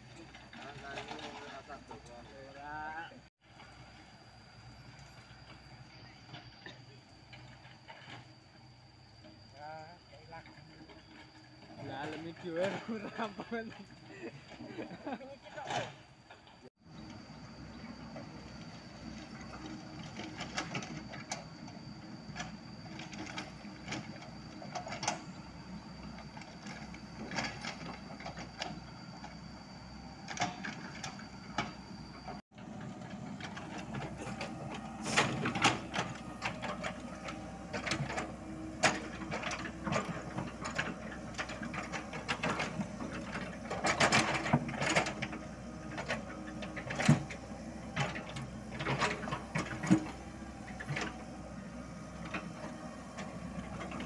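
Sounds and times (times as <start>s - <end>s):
diesel engine and hydraulic hum: 0.0s - 54.0s.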